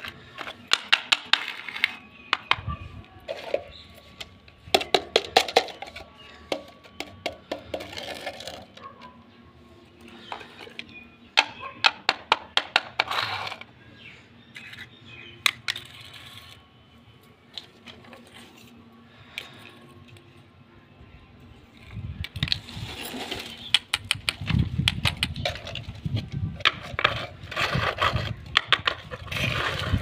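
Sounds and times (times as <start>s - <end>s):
plastic toys clicking on stone floor: 0.0s - 9.2s, 10.0s - 13.7s, 14.5s - 16.6s, 17.4s - 20.5s, 21.7s - 30.0s.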